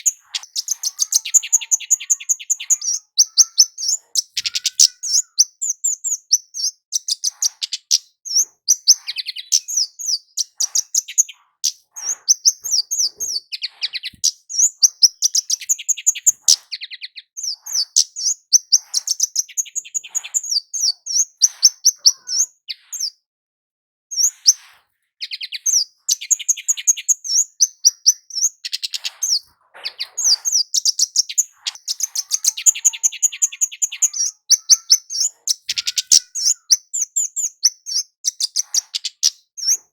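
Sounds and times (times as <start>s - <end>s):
bird singing high thin chips: 0.0s - 23.2s, 24.1s - 39.9s.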